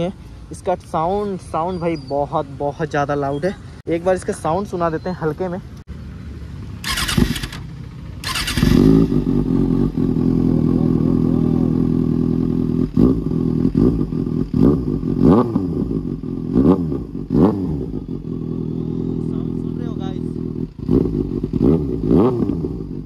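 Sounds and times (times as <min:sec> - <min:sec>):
motorcycle throttle blips: 0:00.8 - 0:23.0
motorcycle engine idling: 0:02.9 - 0:23.0.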